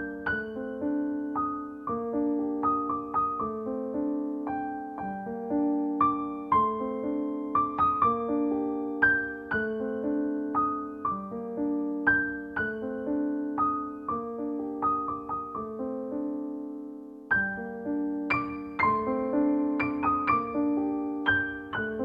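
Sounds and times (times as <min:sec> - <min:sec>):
gentle keyboard melody: 0:00.0 - 0:22.0.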